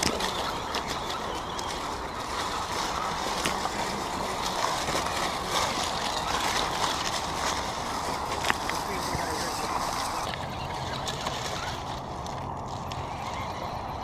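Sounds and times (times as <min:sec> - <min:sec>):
electric motors whirring: 0:00.0 - 0:14.0.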